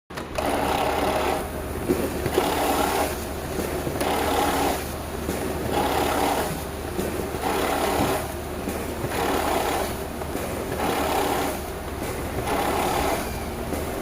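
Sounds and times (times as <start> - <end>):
document feeder whirring: 0.1 - 14.0.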